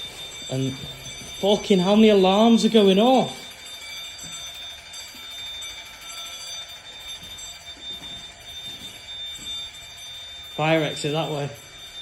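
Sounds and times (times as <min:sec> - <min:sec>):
building alarm sounders: 0:00.0 - 0:12.0.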